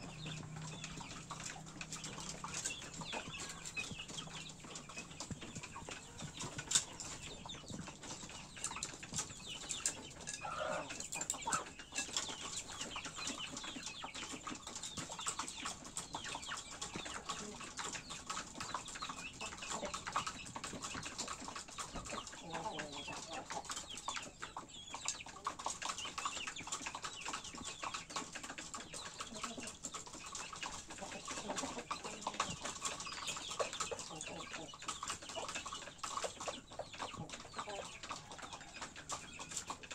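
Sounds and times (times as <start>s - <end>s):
chickens clucking: 0.0s - 39.9s
small clicks and scratches: 0.0s - 39.9s.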